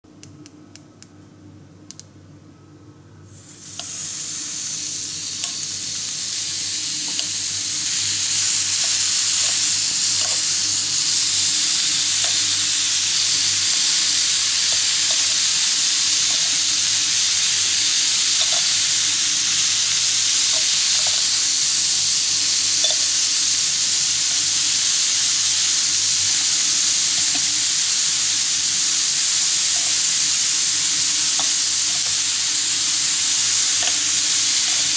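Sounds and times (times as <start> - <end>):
meat sizzling on grill pan: 3.4 - 34.9.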